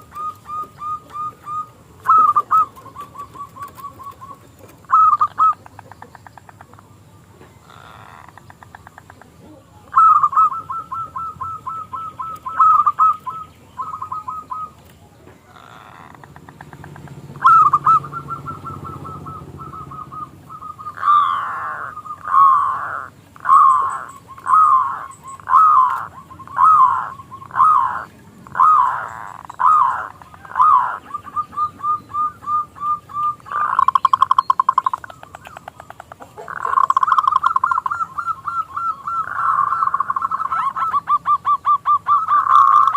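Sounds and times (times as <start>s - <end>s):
dove trilling coos: 0.0s - 42.9s.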